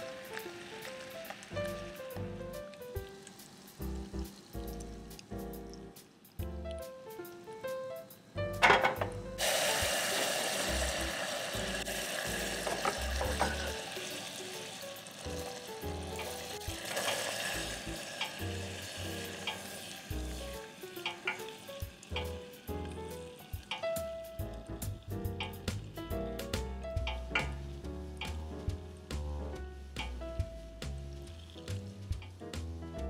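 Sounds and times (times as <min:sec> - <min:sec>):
sizzling in a hot pan: 0:00.0 - 0:06.5, 0:07.1 - 0:32.7.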